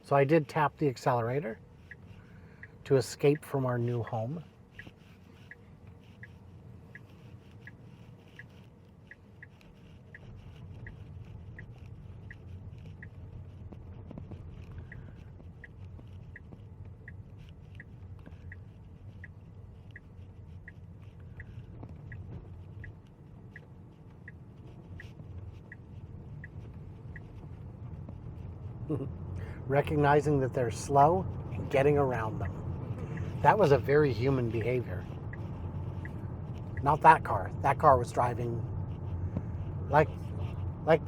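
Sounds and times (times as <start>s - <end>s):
turn signal ticking: 0.0s - 41.0s.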